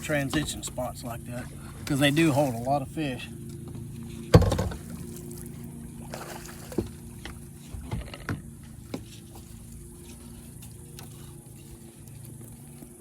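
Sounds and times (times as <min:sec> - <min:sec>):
boat motor humming: 0:00.0 - 0:13.0
water splashes: 0:00.0 - 0:13.0.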